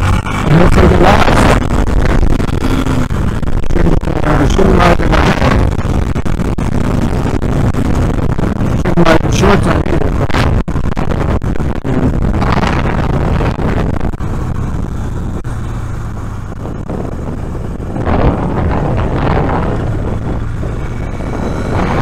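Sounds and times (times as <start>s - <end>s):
motorcycle engine rumble: 0.0s - 22.0s
wind noise inside helmet: 0.0s - 22.0s.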